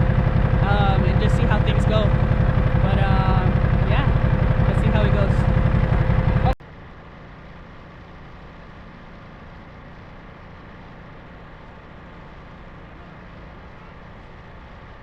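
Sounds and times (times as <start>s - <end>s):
faint engine hum: 0.0s - 15.0s
loud motorcycle engine: 0.0s - 15.0s.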